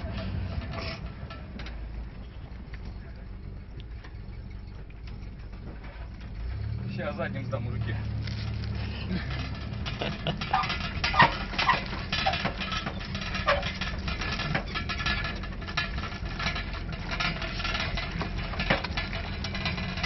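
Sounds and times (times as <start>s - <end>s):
small vehicle engine running: 0.0s - 20.0s
vehicle body rattling and knocking: 0.0s - 20.0s.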